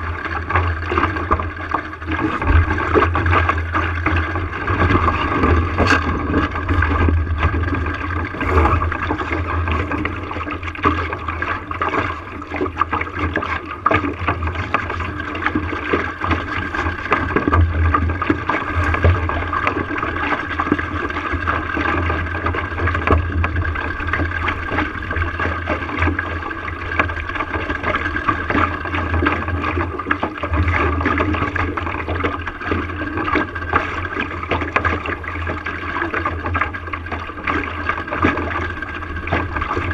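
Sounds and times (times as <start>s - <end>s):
low uneven rumble: 0.0s - 39.9s
water rushing along hull: 0.0s - 39.9s.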